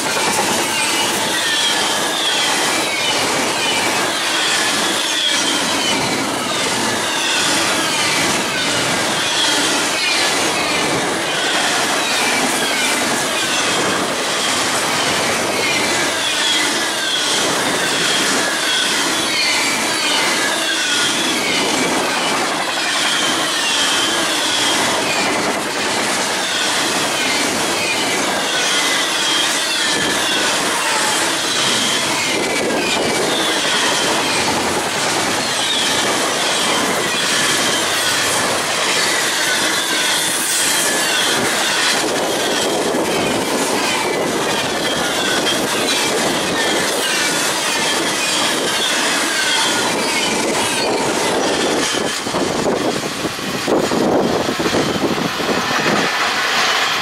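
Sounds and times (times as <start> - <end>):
steel wheels rushing on rail: 0.0 - 57.0
wheels clickety-clack over rails: 0.0 - 57.0
high-pitched wheel squeals: 0.6 - 52.2.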